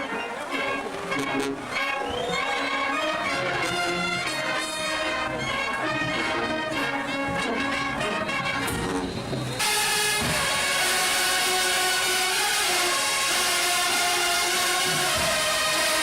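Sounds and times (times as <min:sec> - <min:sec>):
brass band playing melody: 0:00.0 - 0:16.0.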